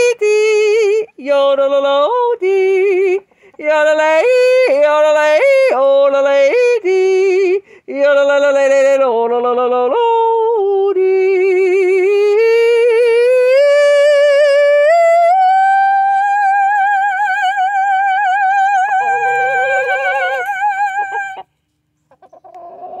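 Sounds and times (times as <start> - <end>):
woman yodeling: 0.0 - 21.5.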